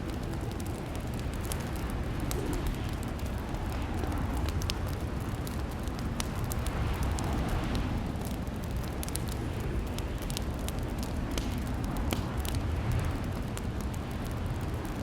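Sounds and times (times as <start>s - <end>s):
fire crackling and popping: 0.0s - 15.0s
low rumble of burning fire: 0.0s - 15.0s.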